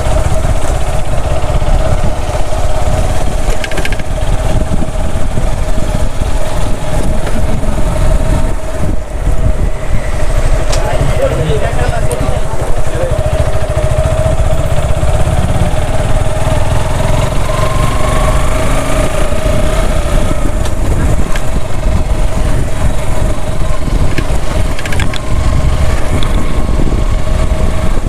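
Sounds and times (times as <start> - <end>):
motorcycle engine running: 0.0 - 28.0
wind on microphone: 0.0 - 28.0.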